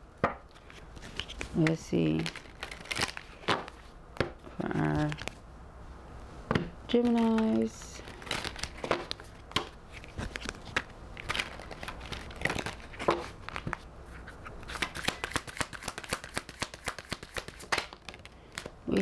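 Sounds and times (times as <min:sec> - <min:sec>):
cards being shuffled: 0:00.2 - 0:05.4, 0:06.5 - 0:19.0.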